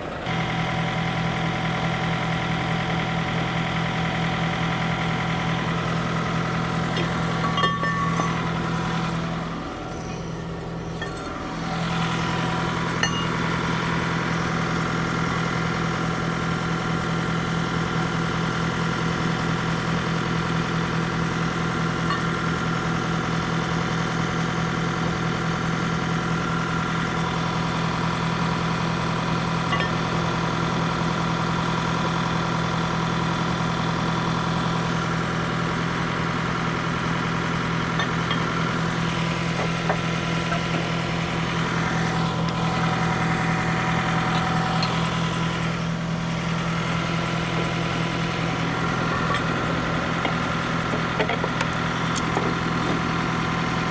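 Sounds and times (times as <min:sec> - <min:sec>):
truck diesel engine idling: 0:00.0 - 0:53.9.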